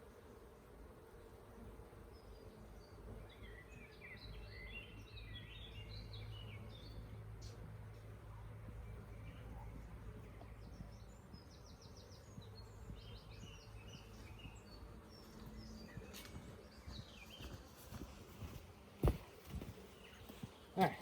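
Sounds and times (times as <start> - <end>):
faint low hum: 0.0 - 21.0
small birds chirping: 0.0 - 21.0.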